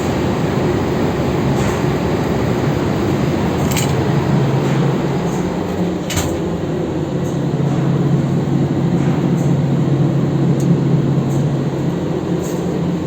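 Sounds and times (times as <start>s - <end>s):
engine room machinery drone: 0.0s - 13.0s.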